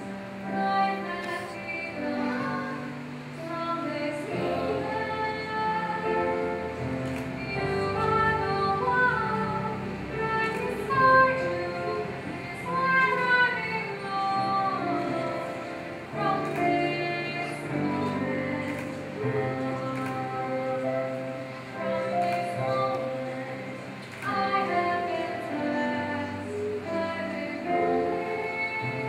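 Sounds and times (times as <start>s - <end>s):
soft musical accompaniment: 0.0s - 29.0s
woman singing: 0.0s - 29.0s.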